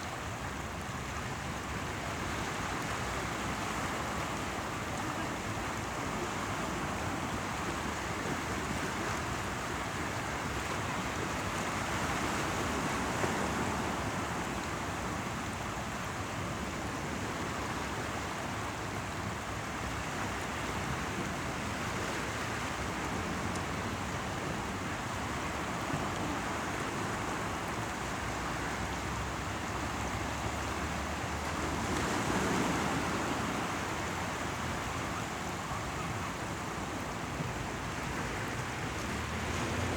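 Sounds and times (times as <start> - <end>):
running water: 0.0 - 39.9
sea waves washing ashore: 0.0 - 39.9.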